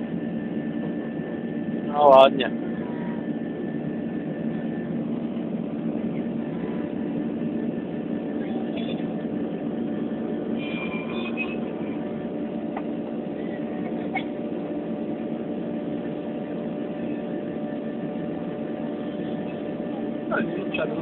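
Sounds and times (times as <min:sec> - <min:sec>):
jet engines droning: 0:00.0 - 0:21.0
low hum: 0:00.0 - 0:21.0.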